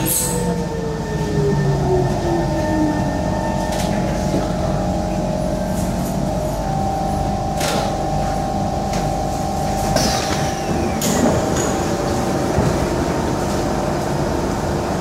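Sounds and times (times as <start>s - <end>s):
train motor hum and rumble: 0.0s - 15.0s.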